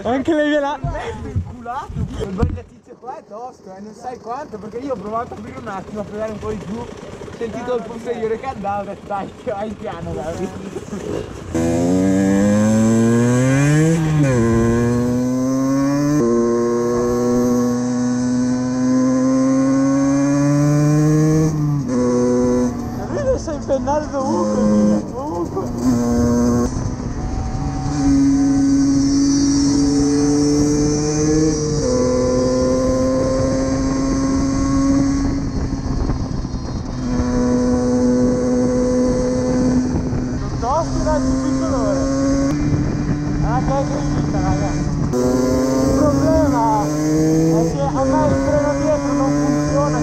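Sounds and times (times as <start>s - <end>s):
moped engine pulling away: 4.2s - 50.0s.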